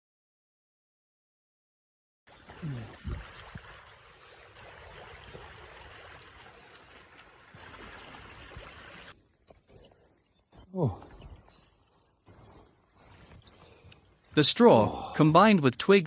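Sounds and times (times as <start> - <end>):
floodwater rushing: 2.3 - 16.0.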